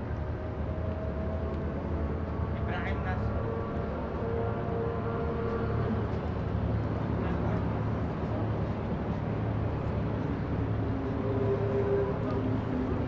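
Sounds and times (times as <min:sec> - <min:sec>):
low engine-like hum: 0:00.0 - 0:13.0
outdoor background noise: 0:00.0 - 0:13.0.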